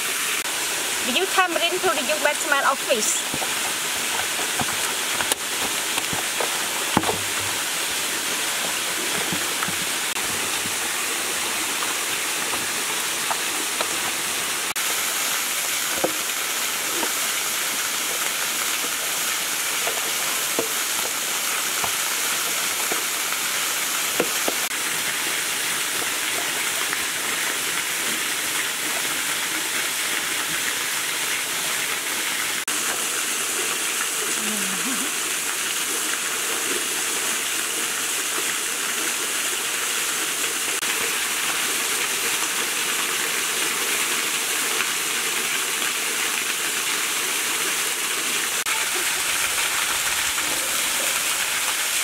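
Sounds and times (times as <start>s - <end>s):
small waterfall rushing: 0.0s - 52.0s.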